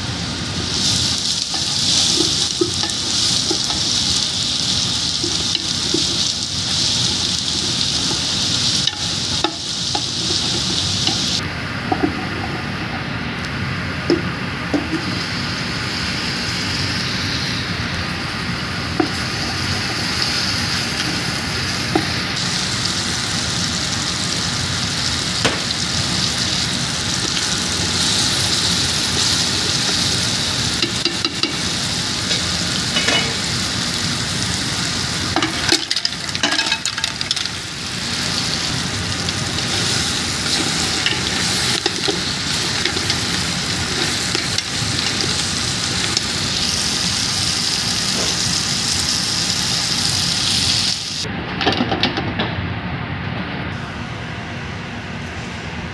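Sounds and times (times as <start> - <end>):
food sizzling in hot oil: 0.0 - 51.3.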